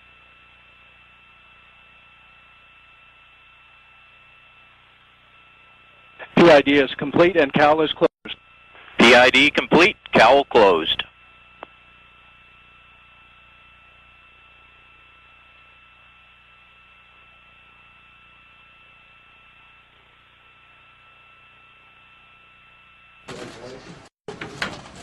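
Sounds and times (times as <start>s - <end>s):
radio channel hum and hiss: 0.0s - 25.0s.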